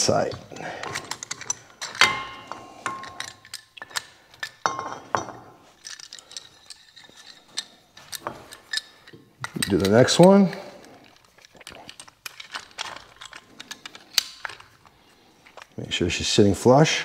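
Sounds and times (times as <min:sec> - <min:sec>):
metal clamp clinking: 0:00.0 - 0:15.8.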